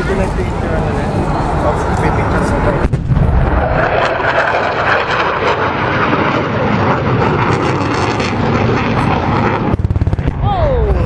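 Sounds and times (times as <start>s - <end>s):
jet flying overhead: 0.0s - 11.0s.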